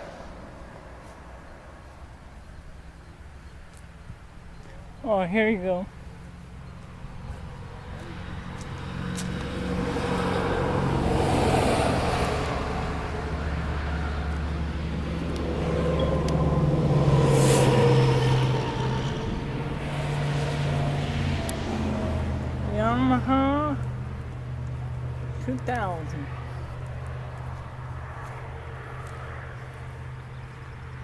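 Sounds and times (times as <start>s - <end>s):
road noise: 0.0s - 31.0s
vehicle engine hum: 0.0s - 31.0s.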